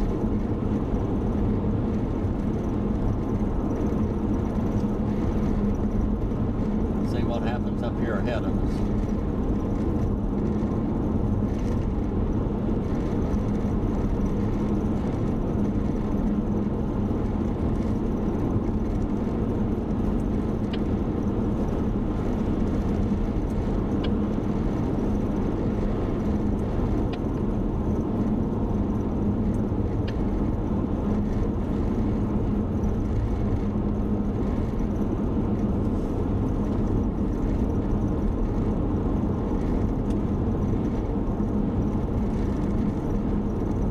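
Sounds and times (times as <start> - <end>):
car engine and road drone: 0.0 - 43.9.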